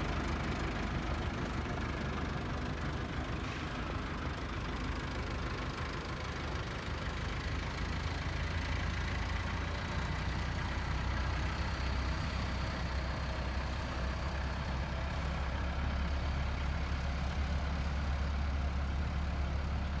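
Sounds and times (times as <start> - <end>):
tractor engine humming: 0.0 - 17.2.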